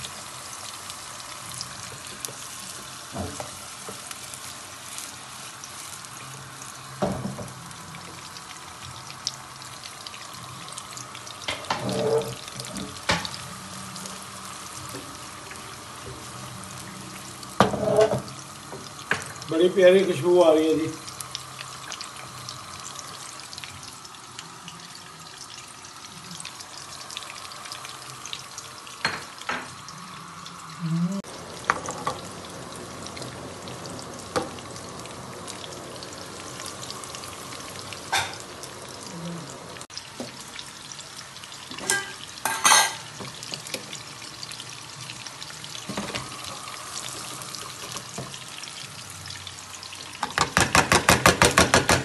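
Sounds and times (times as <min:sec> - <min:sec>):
ghee sizzling in a pan: 0:00.0 - 0:52.0.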